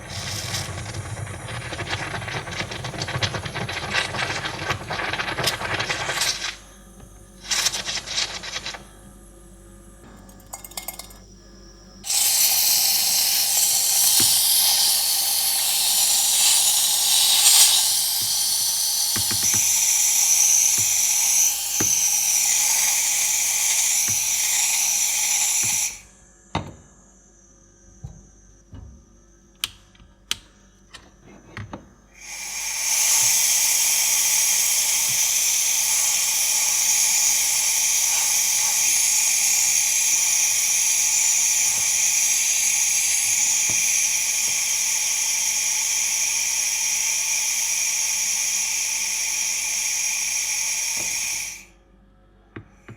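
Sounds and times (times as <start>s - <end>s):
steam wand hissing: 0.0s - 26.2s, 32.1s - 51.8s.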